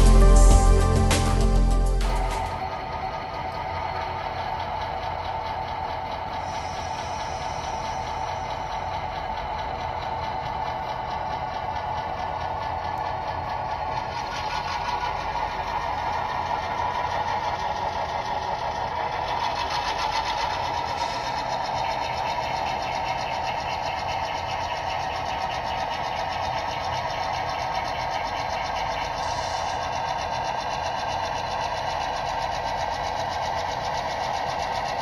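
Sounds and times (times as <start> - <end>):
wheels clicking on track: 0.0 - 35.0.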